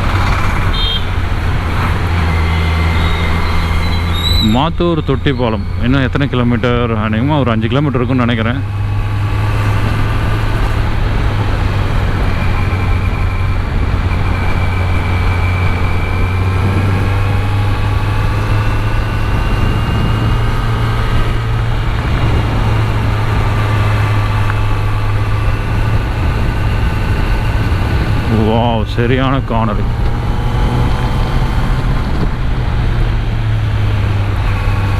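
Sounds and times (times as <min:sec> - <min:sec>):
motorcycle engine cruising: 0:00.0 - 0:34.9
road and wind noise: 0:00.0 - 0:34.9.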